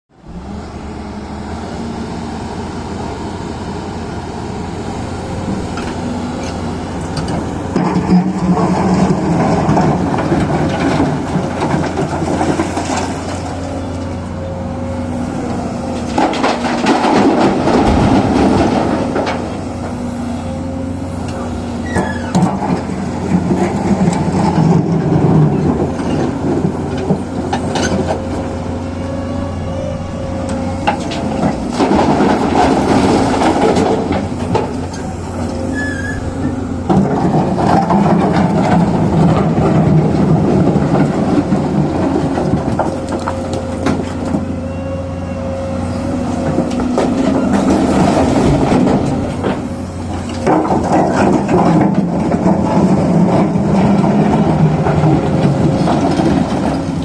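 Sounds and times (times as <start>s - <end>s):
excavator diesel engine running: 0.1s - 57.0s.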